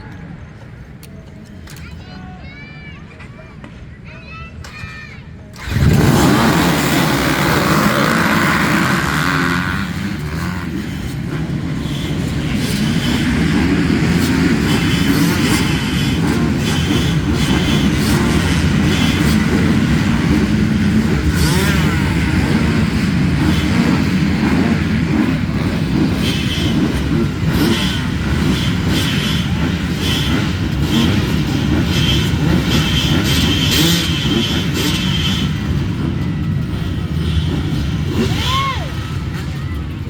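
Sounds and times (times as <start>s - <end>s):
vehicle engines rumbling: 0.0s - 40.0s.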